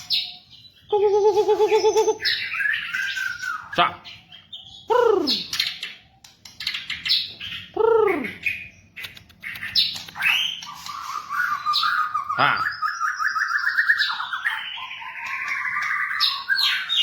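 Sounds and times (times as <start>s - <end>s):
bird singing chirps and trills: 0.0s - 17.0s.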